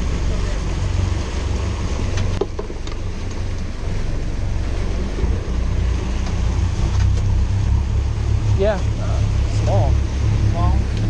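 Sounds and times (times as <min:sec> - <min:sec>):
boat engine rumble: 0:00.0 - 0:11.0
churning wake: 0:00.0 - 0:11.0
wind buffeting microphone: 0:00.0 - 0:11.0.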